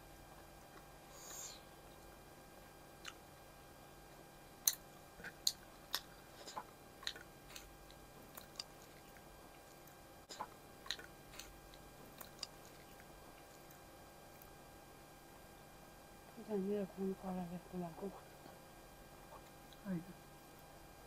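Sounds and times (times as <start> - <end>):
people chewing food: 0.1 - 15.9, 18.0 - 20.8.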